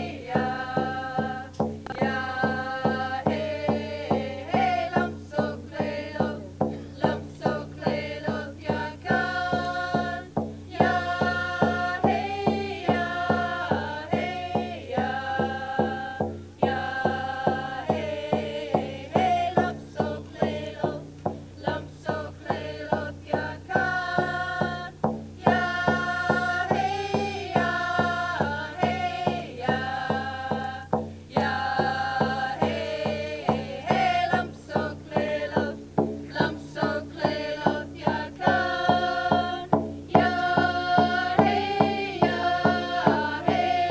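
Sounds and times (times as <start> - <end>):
group singing in unison: 0.0 - 43.9
steady drumbeat: 0.0 - 43.9.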